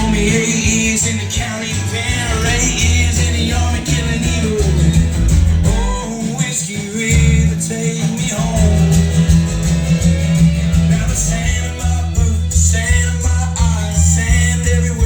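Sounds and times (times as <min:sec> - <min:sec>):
song over loudspeakers: 0:00.0 - 0:15.0.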